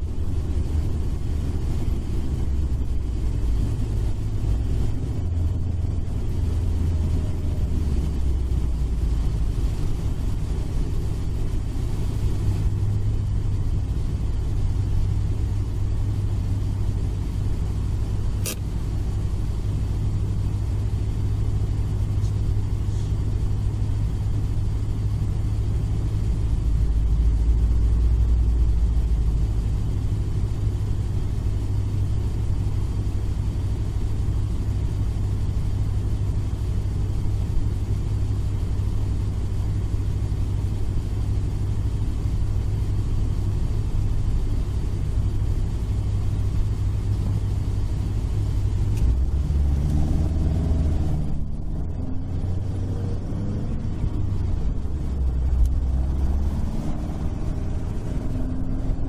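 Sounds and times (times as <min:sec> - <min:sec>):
car engine idling: 0:00.0 - 0:59.0
deeper rumble: 0:00.0 - 0:59.0.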